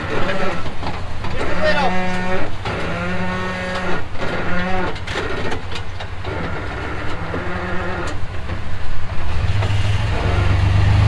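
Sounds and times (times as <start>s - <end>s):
engine running low: 0.0s - 11.0s
suspension creaking: 0.0s - 11.0s.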